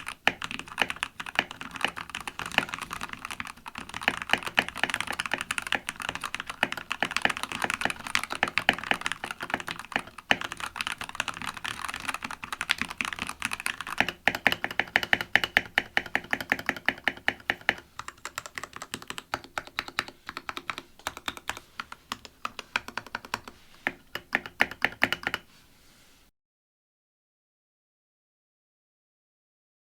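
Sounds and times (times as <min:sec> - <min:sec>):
typing on mechanical keyboard: 0:00.0 - 0:25.5.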